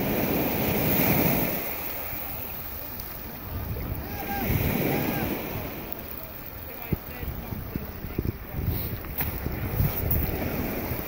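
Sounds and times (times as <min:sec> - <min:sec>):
small waves washing up: 0:00.0 - 0:11.0
wind on microphone: 0:00.0 - 0:11.0.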